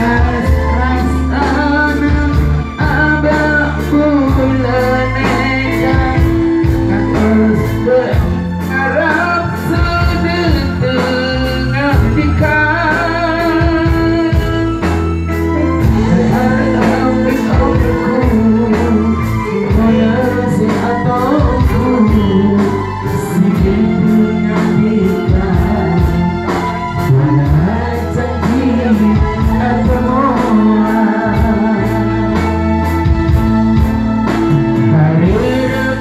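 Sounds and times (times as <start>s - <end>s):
live band with singing: 0.0s - 36.0s.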